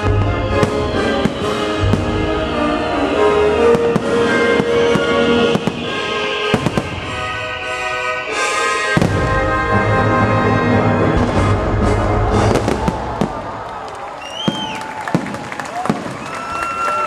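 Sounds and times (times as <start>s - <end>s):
fireworks bangs and crackle: 0.0s - 7.7s, 8.9s - 9.7s, 11.2s - 17.0s
patriotic show music: 0.0s - 14.2s.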